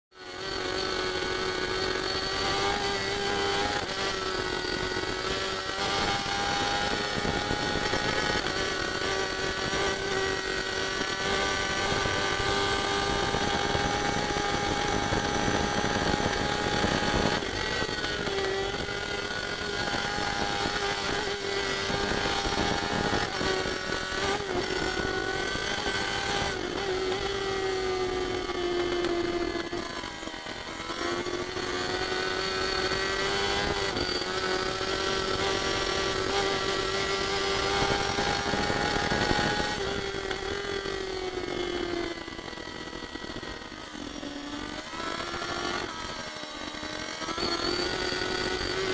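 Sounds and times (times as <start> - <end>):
motorcycle engine at high revs: 0.1 - 48.9.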